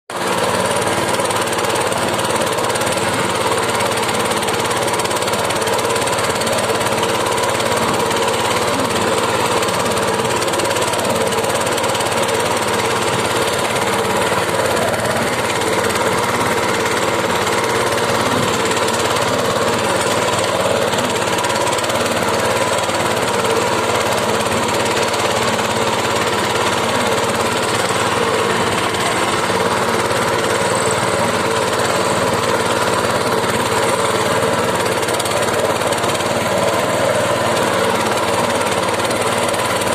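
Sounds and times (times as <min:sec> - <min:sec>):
boat engine chugging: 0:00.1 - 0:39.9.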